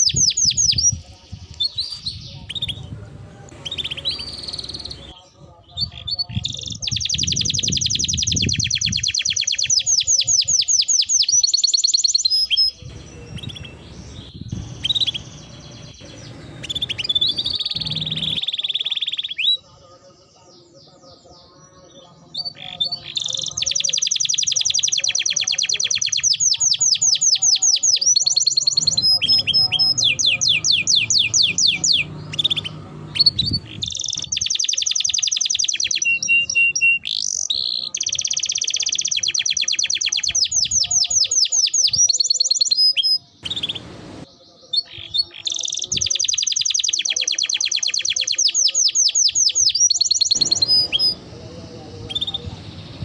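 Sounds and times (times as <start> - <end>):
songbird singing trilled phrases: 0.0 - 53.0.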